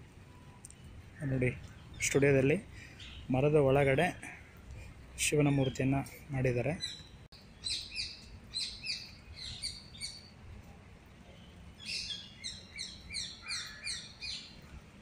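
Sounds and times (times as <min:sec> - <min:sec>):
birds chirping: 0:00.3 - 0:10.4, 0:11.3 - 0:15.0.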